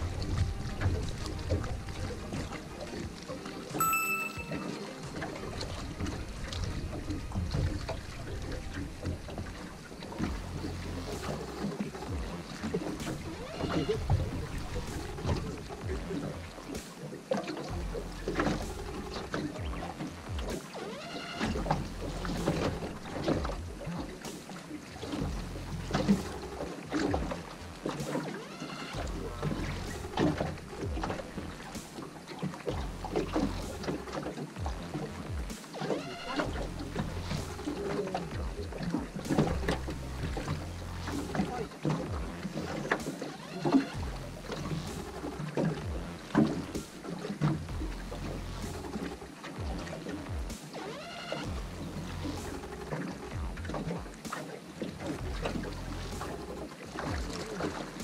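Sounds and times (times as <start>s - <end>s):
water lapping against boat hull: 0.0s - 3.8s, 4.8s - 58.0s.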